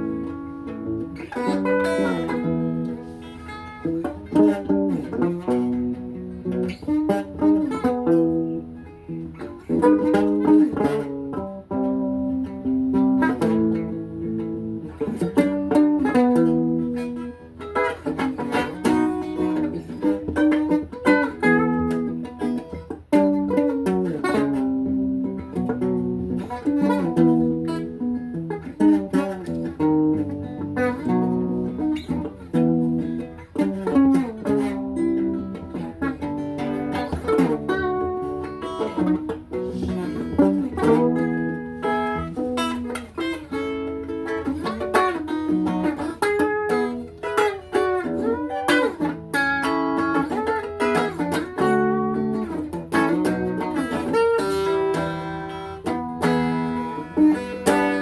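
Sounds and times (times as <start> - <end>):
guitar playing plucked notes: 0.0 - 58.0.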